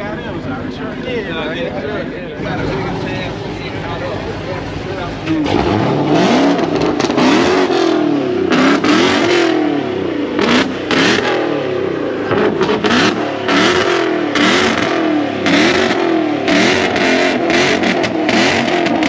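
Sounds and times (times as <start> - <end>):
car engine revving hard: 2.4 - 19.0.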